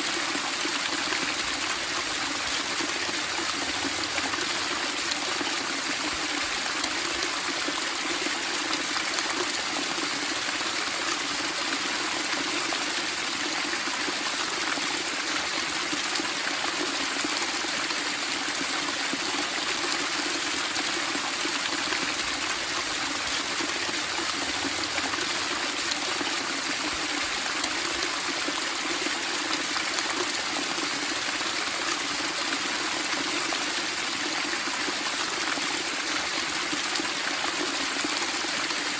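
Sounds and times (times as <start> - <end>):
running water babbling: 0.0 - 38.9.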